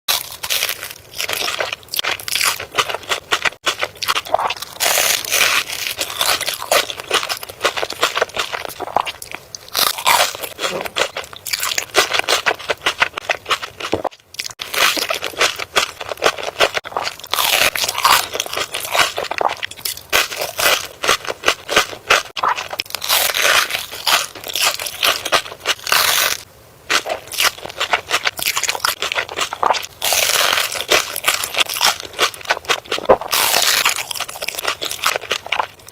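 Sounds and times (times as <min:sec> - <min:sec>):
crunchy food being chewed: 0:00.1 - 0:35.9.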